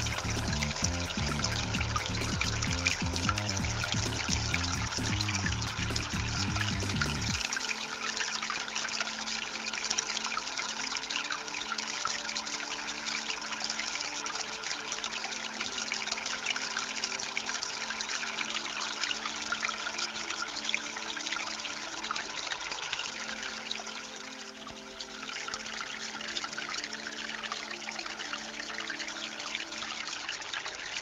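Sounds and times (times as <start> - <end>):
fountain water trickling over stones: 0.0 - 31.0.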